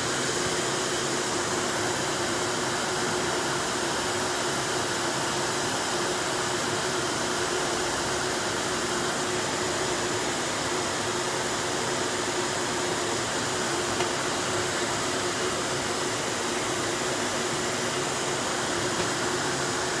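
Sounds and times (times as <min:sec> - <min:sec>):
labeling machine humming: 0:00.1 - 0:20.0.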